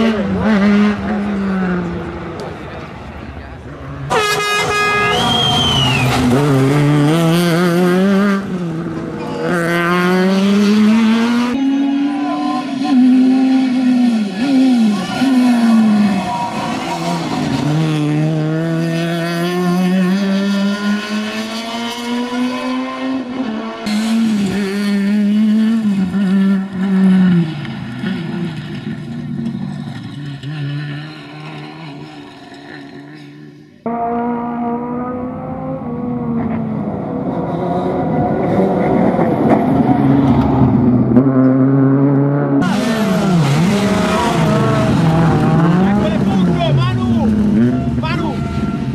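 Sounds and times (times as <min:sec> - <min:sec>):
car engine revving hard: 0:05.2 - 0:32.3, 0:33.9 - 0:48.9.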